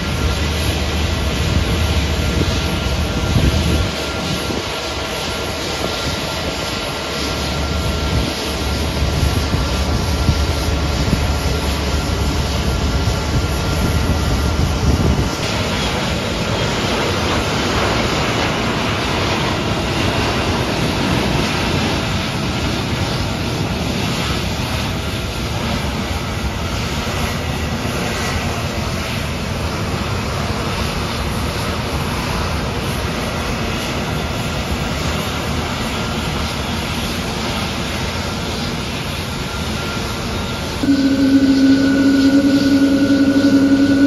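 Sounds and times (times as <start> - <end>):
jet aircraft noise: 0.0 - 44.0.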